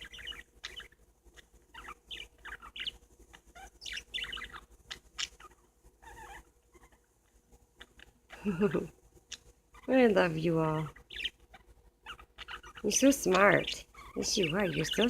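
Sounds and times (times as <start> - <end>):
parakeets chirping and chattering: 0.0 - 15.0.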